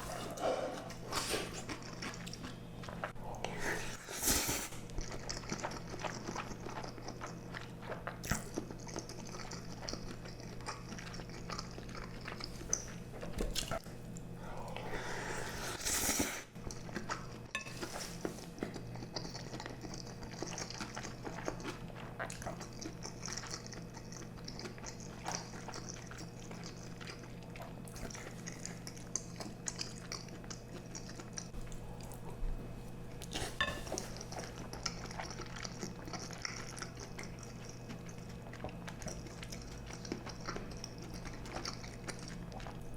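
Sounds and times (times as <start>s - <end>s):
chewing and slurping food: 0.0s - 42.9s
steady low hum: 0.0s - 42.9s.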